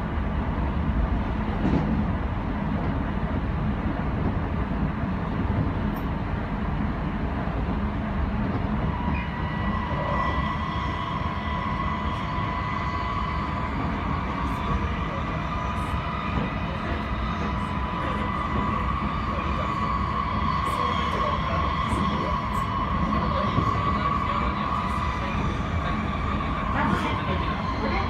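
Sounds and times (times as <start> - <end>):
steady whine: 0.0 - 28.0
train wheels rumbling on rail: 0.0 - 28.0.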